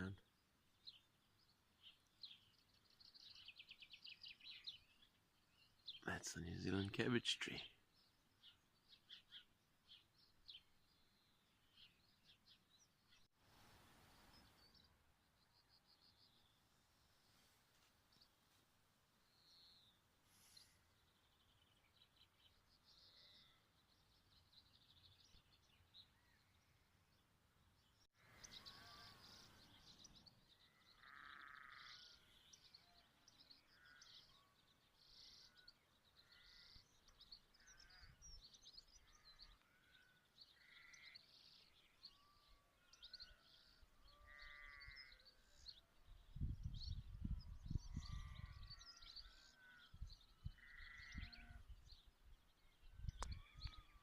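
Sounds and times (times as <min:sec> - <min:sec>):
birds chirping and warbling: 0:00.0 - 0:18.4, 0:19.2 - 0:54.0.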